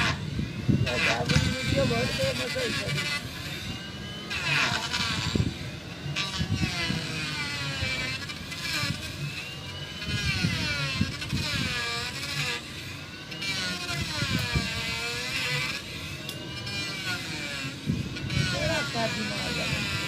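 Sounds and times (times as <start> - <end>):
motor with rising and falling pitch: 0.0 - 20.0.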